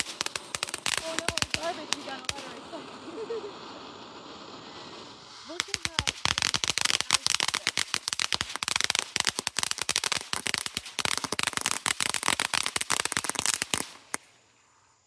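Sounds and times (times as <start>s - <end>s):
fireworks crackling barrage: 0.0s - 14.7s.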